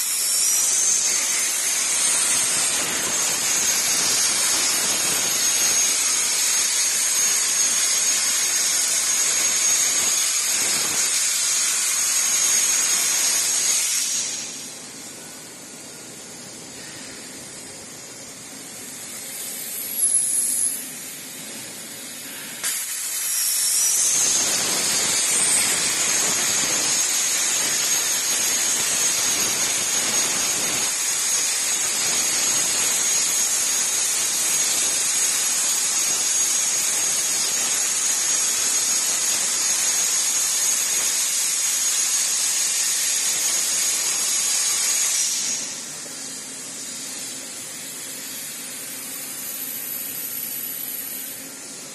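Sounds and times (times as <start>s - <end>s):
gas hiss: 0.0s - 51.9s
plasma torch arc hissing: 0.0s - 51.9s.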